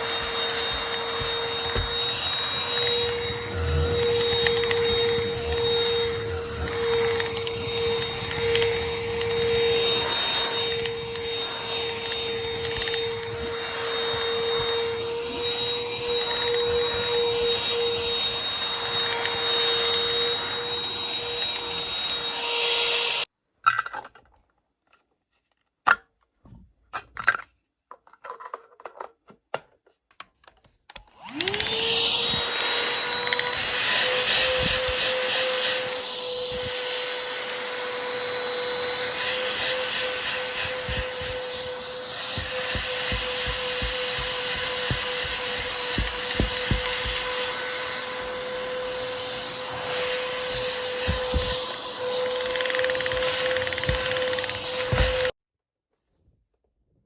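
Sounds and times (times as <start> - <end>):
vacuum cleaner running: 0.0 - 23.3, 31.0 - 55.4.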